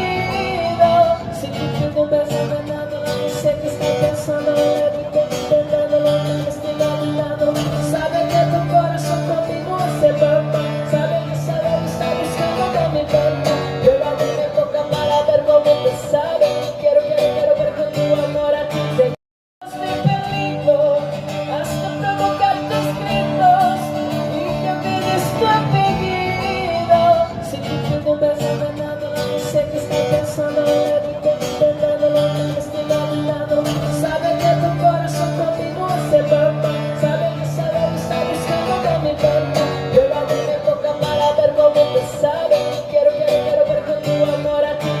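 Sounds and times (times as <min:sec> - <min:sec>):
guitar accompaniment: 0:00.0 - 0:45.0
woman singing: 0:00.0 - 0:45.0.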